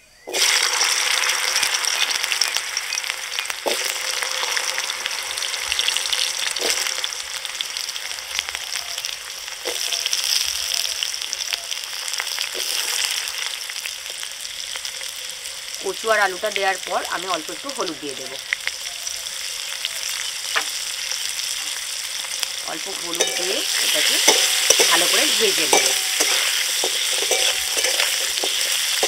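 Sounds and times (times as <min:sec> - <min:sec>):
vegetables sizzling in hot oil: 0:00.0 - 0:29.0.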